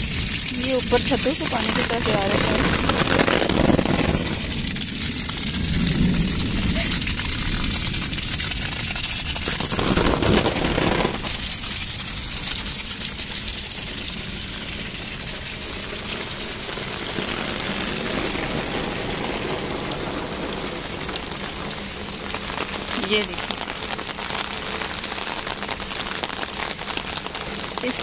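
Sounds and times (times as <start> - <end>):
heavy rain on grass: 0.0 - 28.0
rainwater pouring off roof: 0.0 - 28.0.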